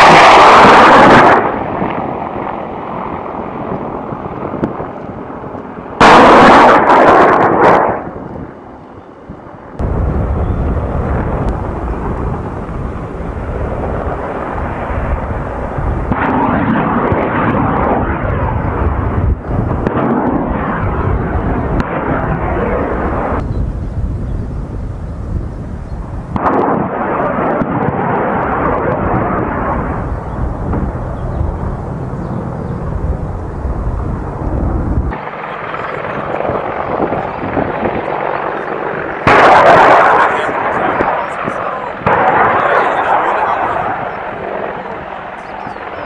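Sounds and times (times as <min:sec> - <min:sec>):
helicopter gunfire bursts: 0:00.0 - 0:04.3, 0:06.0 - 0:08.0, 0:09.8 - 0:23.4, 0:26.2 - 0:46.0
helicopter rotor and engine: 0:00.0 - 0:46.0.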